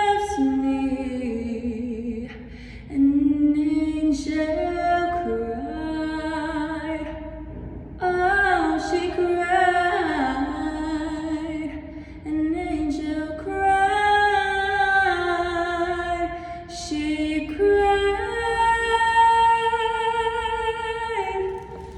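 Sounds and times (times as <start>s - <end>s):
woman singing a cappella: 0.0s - 7.4s, 8.0s - 21.9s.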